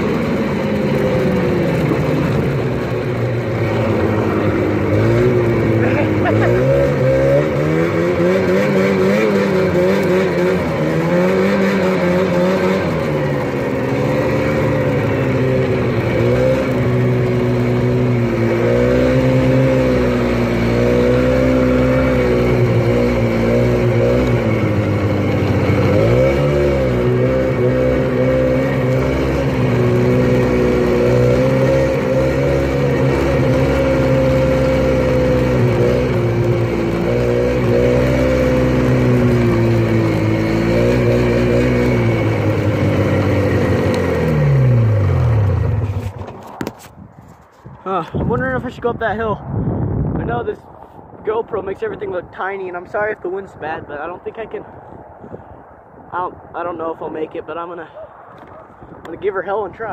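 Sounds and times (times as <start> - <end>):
snowmobile engine running: 0.0 - 49.4.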